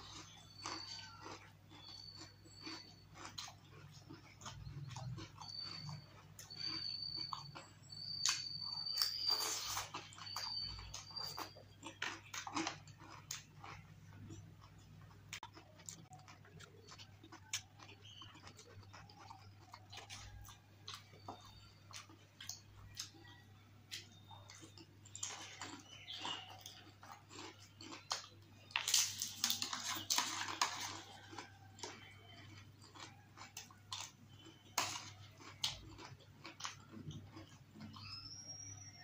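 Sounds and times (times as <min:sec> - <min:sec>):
close chewing with mouth clicks: 0:00.0 - 0:39.0
crunching of crisp shell: 0:00.0 - 0:39.0.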